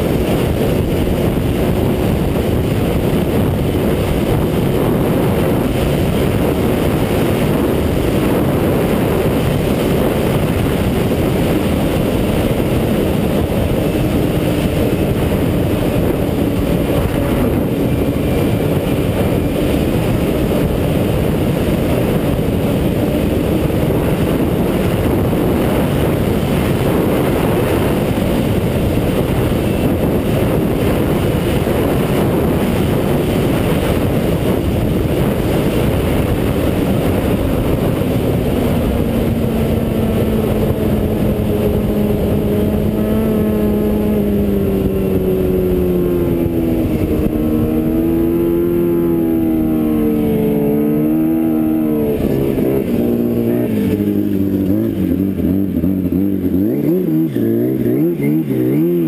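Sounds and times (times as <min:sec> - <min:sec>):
rush of track and wind: 0:00.0 - 0:59.0
snowmobile engine running: 0:00.0 - 0:59.0.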